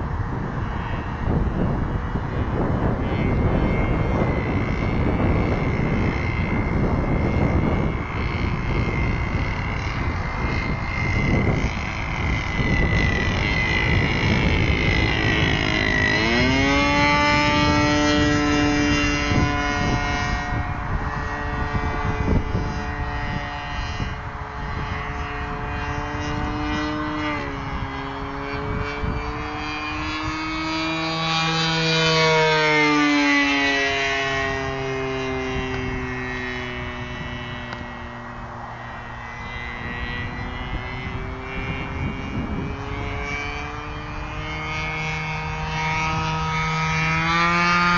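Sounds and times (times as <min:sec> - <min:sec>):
model plane engine whine: 0:00.0 - 0:47.9.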